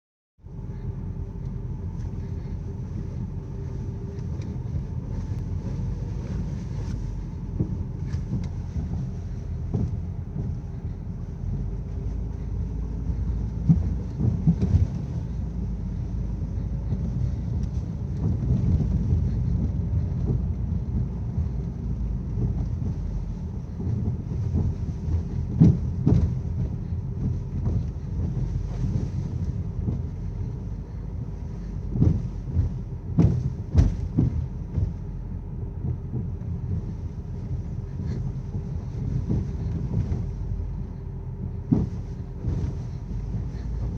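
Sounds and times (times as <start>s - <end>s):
car rumbling on the move: 0.4s - 43.9s.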